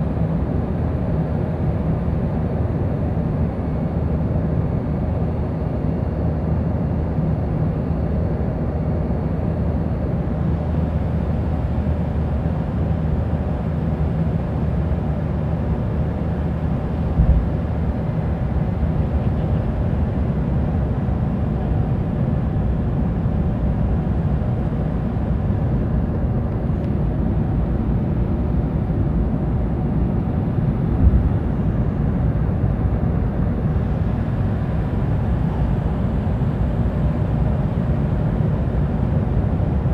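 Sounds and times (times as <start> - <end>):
jet cabin engine rumble: 0.0 - 39.9.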